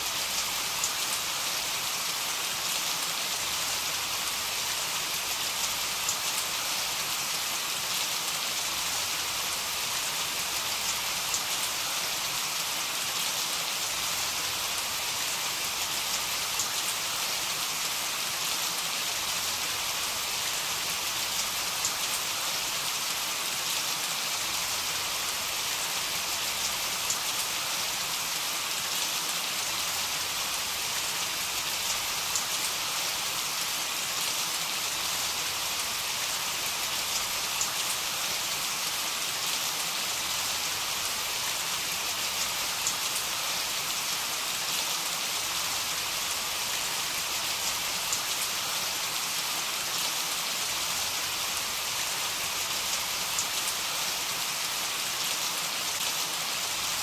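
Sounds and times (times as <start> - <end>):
heavy rain: 0.0 - 57.0
raindrops ticking on a surface: 0.0 - 57.0.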